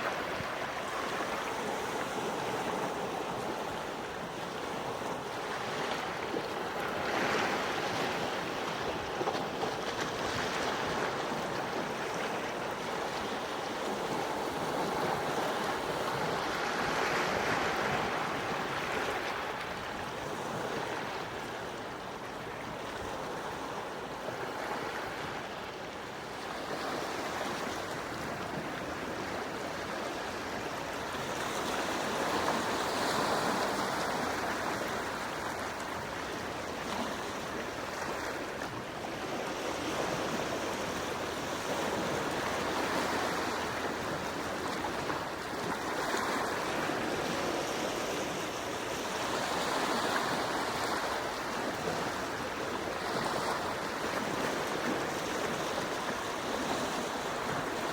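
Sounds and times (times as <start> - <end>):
gentle sea waves washing ashore: 0.0 - 57.9.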